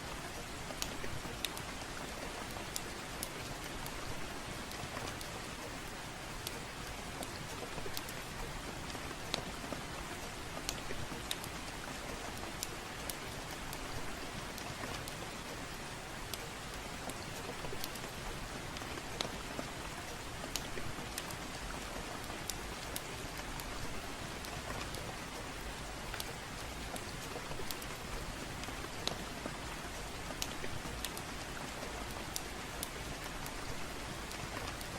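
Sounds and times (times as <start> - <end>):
gentle rain falling: 0.0 - 34.9
wood fire crackling: 0.2 - 34.9.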